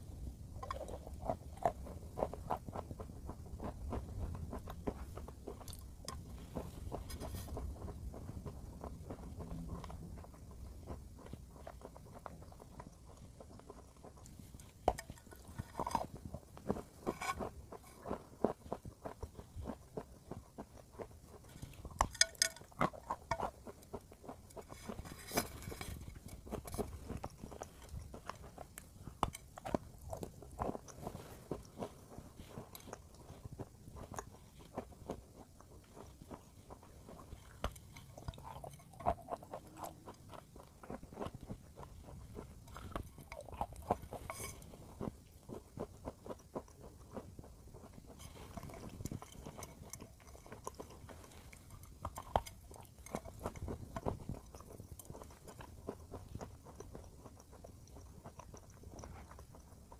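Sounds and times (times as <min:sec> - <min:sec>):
chewing crunchy powdery block: 0:00.0 - 0:59.9.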